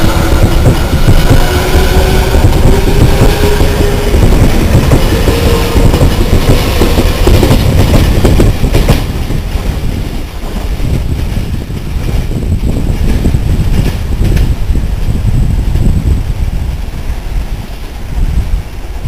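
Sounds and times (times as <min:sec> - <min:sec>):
train wheels clattering over rail joints: 0:00.0 - 0:16.0
train rumble: 0:00.0 - 0:19.0.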